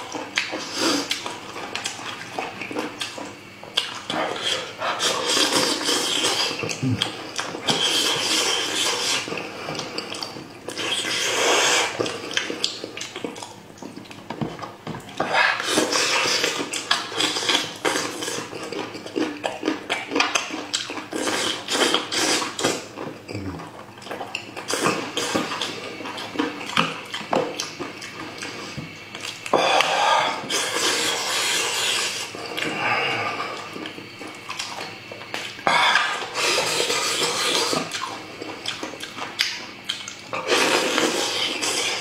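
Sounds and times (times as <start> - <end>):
chewing and lip-smacking: 0.1 - 32.7, 33.3 - 42.0.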